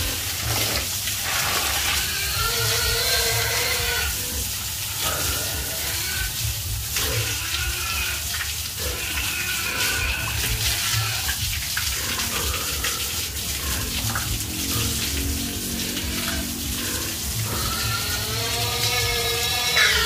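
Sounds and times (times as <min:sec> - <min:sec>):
hose water splashing on concrete: 0:00.0 - 0:20.0.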